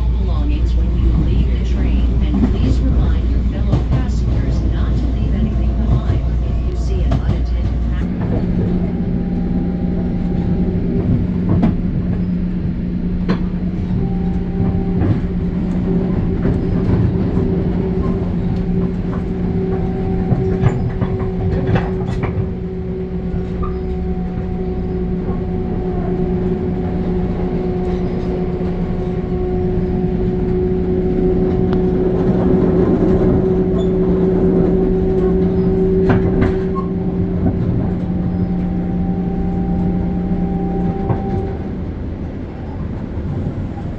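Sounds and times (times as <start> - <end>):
train running on track: 0.0 - 43.9.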